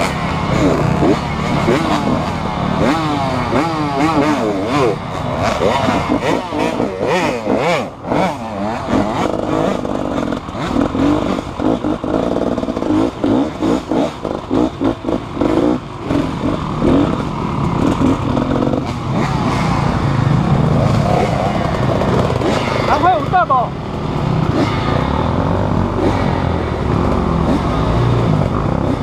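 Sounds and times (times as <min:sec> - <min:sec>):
engine revving: 0:00.0 - 0:29.0.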